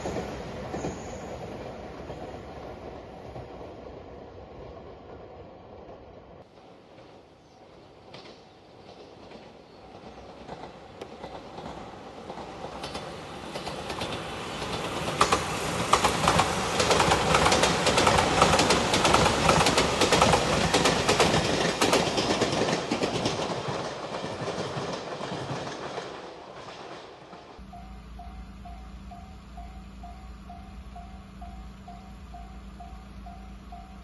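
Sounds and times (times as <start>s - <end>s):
electric train passing: 0.0s - 34.0s
wheels clacking over rail joints: 6.6s - 34.0s.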